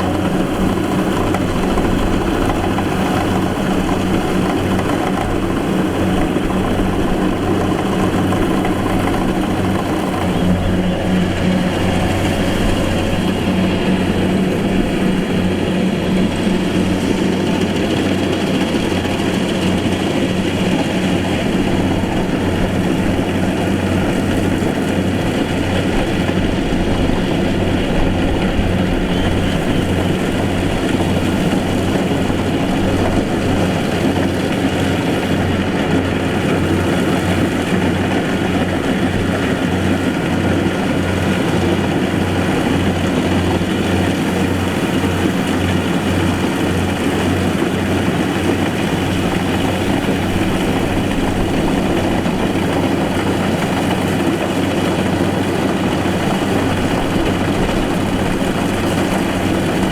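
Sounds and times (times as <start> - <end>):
harvester diesel engine running: 0.0 - 59.9
machine working clatter: 0.0 - 59.9.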